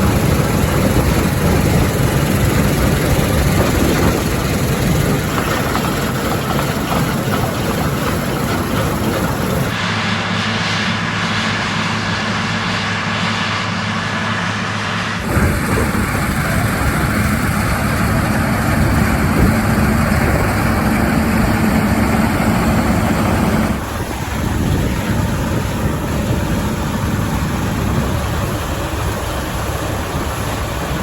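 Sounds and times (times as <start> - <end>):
combine harvester drone: 0.0 - 31.0.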